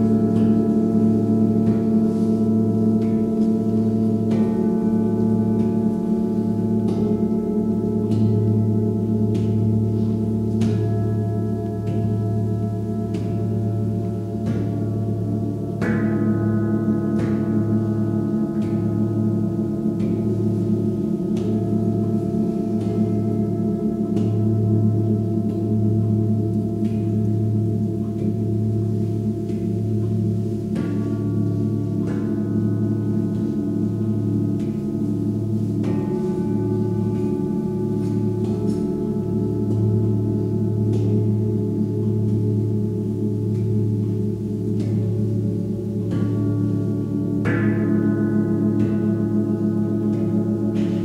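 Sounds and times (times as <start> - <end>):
singing bowls ringing: 0.0 - 51.0.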